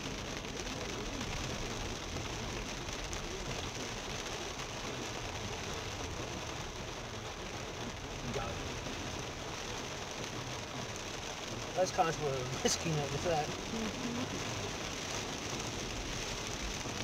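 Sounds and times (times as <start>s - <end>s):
rain on car windscreen and roof: 0.0s - 17.0s
tyres on wet road: 0.0s - 17.0s.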